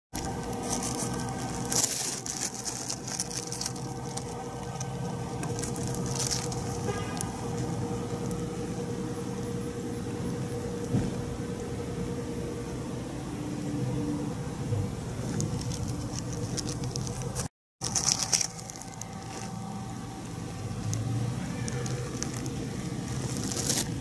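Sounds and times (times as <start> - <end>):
low mechanical hum: 0.2 - 24.0.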